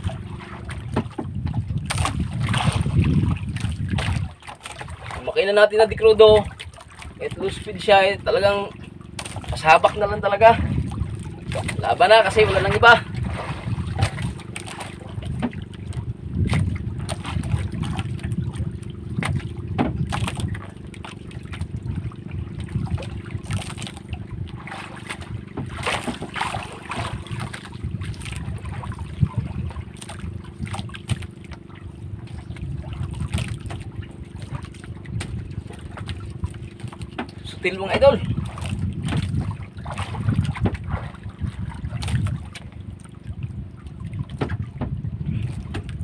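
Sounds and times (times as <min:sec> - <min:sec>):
boat diesel engine running: 0:00.0 - 0:46.0
water splashing: 0:00.0 - 0:46.0
wind on microphone: 0:00.0 - 0:46.0.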